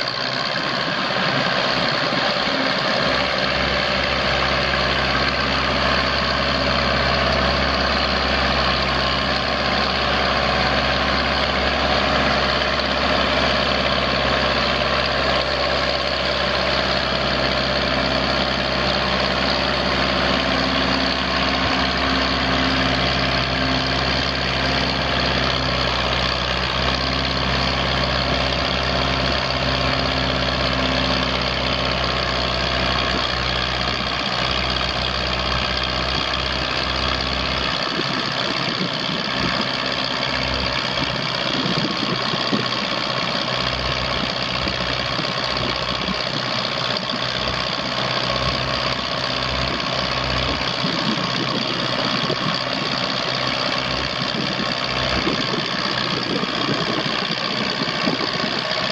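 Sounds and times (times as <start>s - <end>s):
tractor engine idling: 0.0s - 58.9s.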